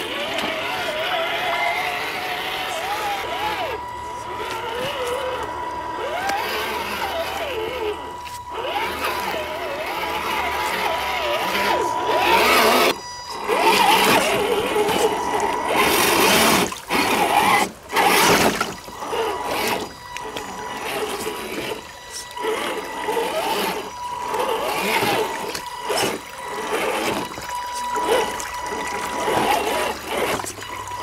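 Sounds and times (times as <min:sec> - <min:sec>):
electric motor and gears whining: 0:00.0 - 0:31.0
water splashing and trickling: 0:00.0 - 0:31.0.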